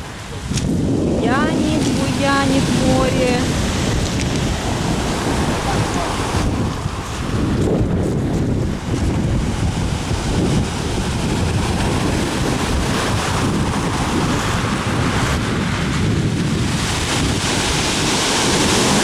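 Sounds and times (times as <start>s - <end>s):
stormy sea surf crashing: 0.0s - 19.0s
wind buffeting microphone: 0.0s - 19.0s.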